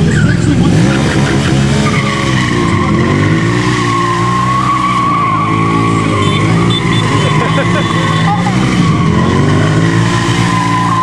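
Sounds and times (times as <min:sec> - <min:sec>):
motorcycle engine revving: 0:00.0 - 0:11.0
tyre squeal: 0:01.8 - 0:11.0.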